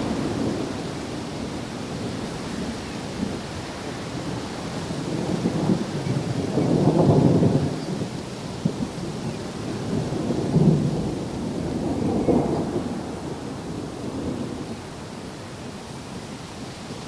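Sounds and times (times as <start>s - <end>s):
thunder rumbling: 0.0s - 15.3s
rain hissing: 0.0s - 17.0s.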